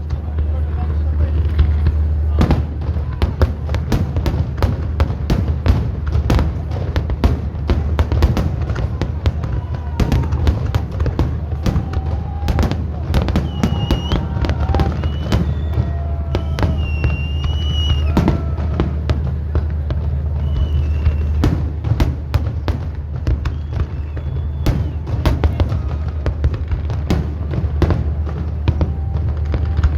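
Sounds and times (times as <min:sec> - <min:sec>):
fireworks bangs and crackles: 0:00.0 - 0:29.9
low rumble: 0:00.0 - 0:29.9.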